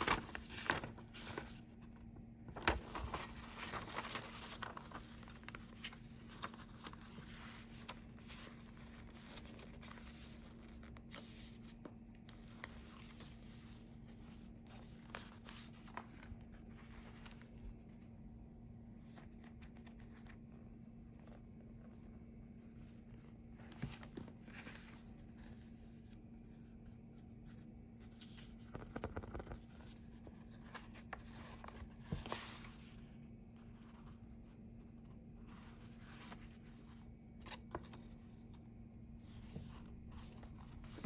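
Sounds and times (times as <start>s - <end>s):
paper rustling and crinkling: 0.0s - 18.2s, 19.0s - 41.0s.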